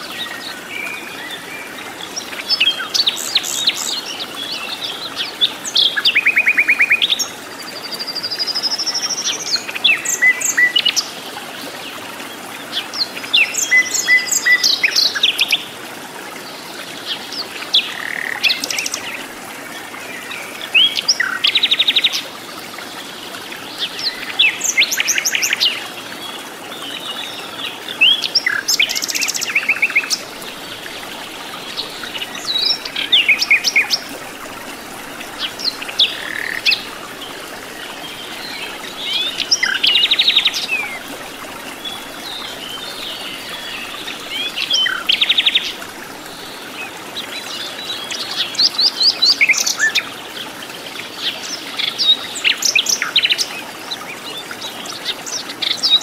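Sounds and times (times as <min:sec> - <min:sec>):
faint steady hiss: 0:00.0 - 0:53.5.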